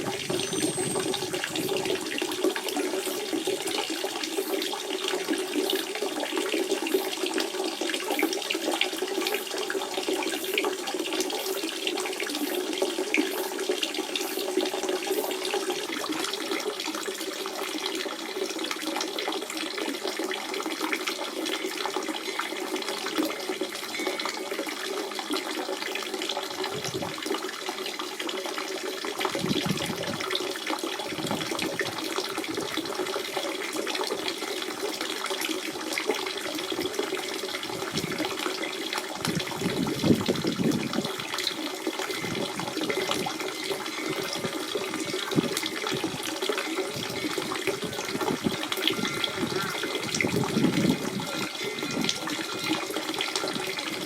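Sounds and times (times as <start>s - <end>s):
spring water trickling: 0.0s - 54.0s.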